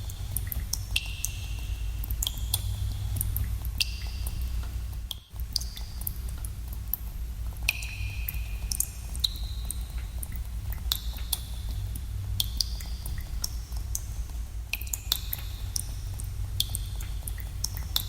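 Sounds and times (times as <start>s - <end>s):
water drops plinking in cave: 0.1s - 7.0s, 7.6s - 18.0s.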